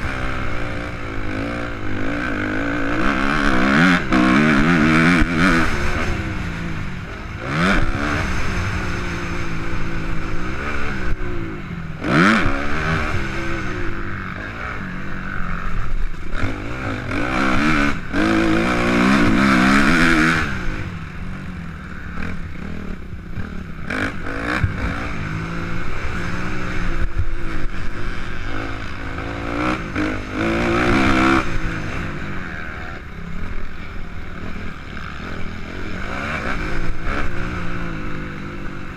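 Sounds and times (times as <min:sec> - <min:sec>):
motocross engine revving: 0:00.0 - 0:38.9.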